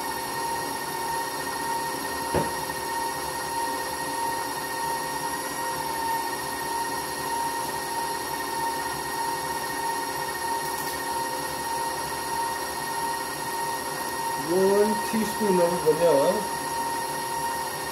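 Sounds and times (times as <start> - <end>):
stand mixer motor whine: 0.0 - 17.9.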